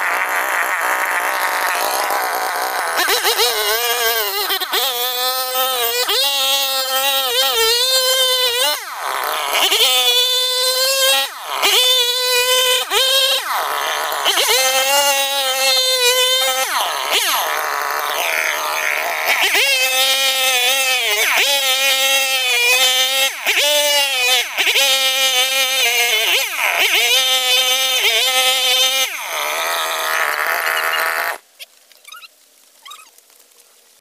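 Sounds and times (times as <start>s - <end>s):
chainsaw cutting wood: 0.0s - 31.5s.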